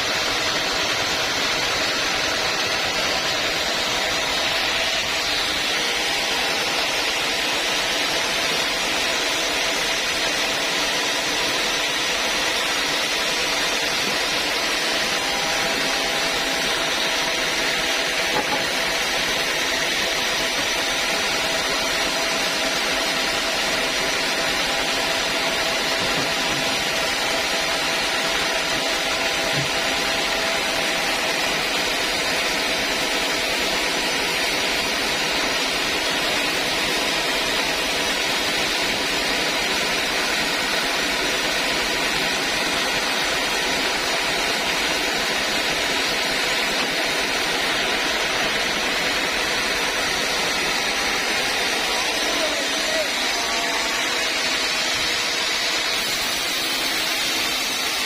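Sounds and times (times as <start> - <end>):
sawmill saw running: 0.0 - 58.0.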